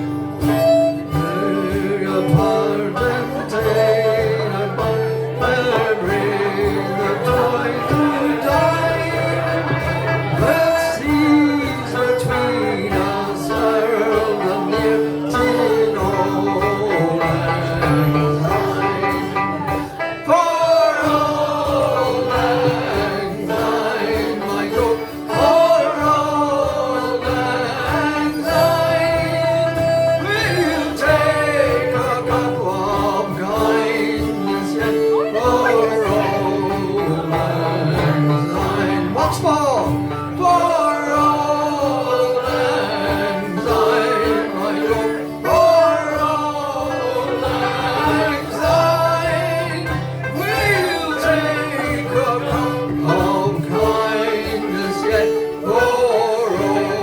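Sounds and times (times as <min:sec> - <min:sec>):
man singing: 0:00.0 - 0:57.0
strummed acoustic strings: 0:00.0 - 0:57.0.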